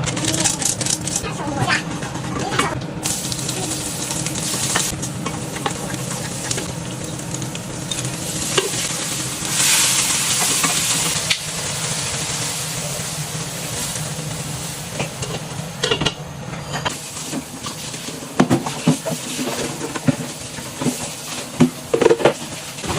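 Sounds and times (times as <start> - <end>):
food sizzling in a pan: 3.0 - 15.6, 16.9 - 22.9.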